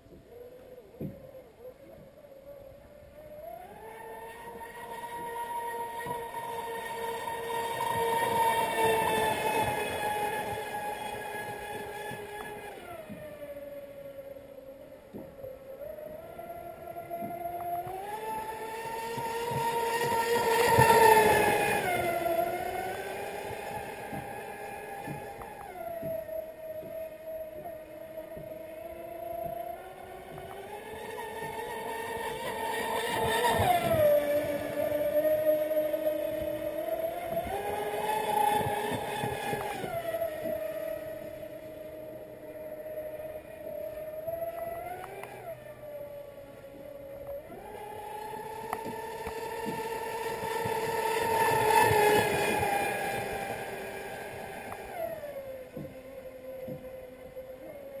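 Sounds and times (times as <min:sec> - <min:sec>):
rc boat motor whine: 0:00.0 - 0:58.0.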